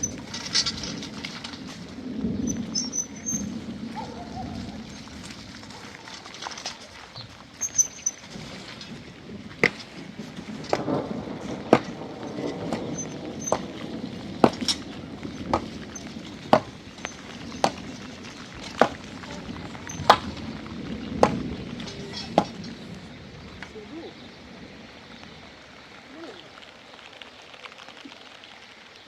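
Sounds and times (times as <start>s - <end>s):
low background rustle: 0.0s - 29.0s.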